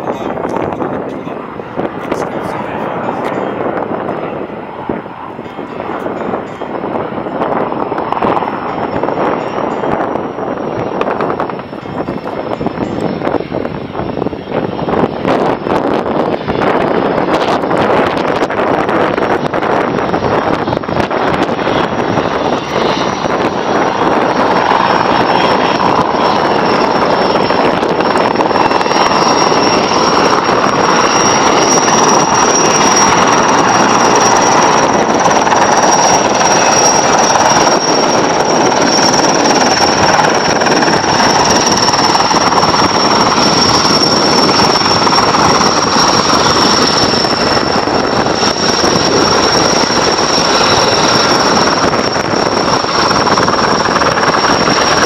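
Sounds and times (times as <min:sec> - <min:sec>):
helicopter engine and rotor noise: 0:00.0 - 0:55.0
helicopter turbine whine: 0:00.0 - 0:55.0.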